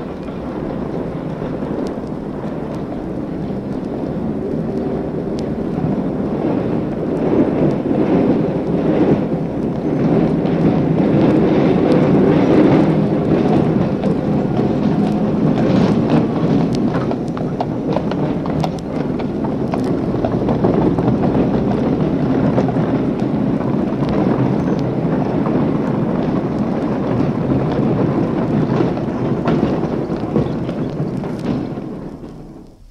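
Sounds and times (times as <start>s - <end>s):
hooves clip-clopping on road: 0.0s - 32.9s
traffic rumble: 0.0s - 32.9s.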